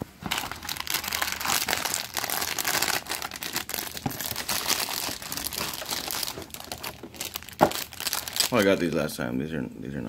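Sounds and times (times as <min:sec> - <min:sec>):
plastic packaging crinkling: 0:00.2 - 0:09.0.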